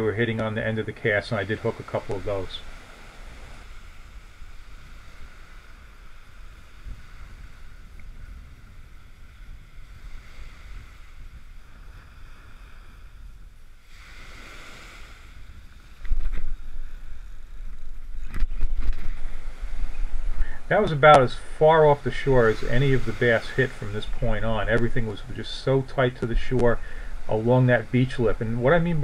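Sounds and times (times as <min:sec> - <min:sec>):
gusty wind buffeting microphone: 0:00.0 - 0:29.0
ocean surf breaking on sand: 0:00.0 - 0:29.0.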